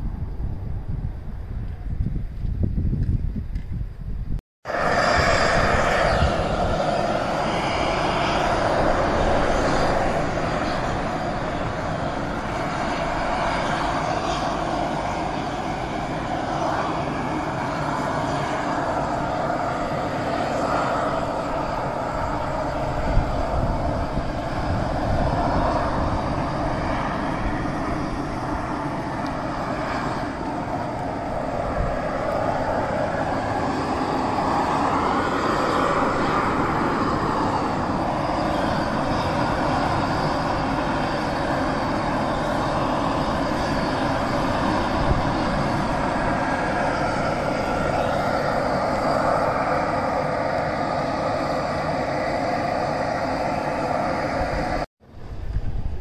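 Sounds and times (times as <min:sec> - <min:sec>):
boiling water roaring: 0:04.6 - 0:54.8.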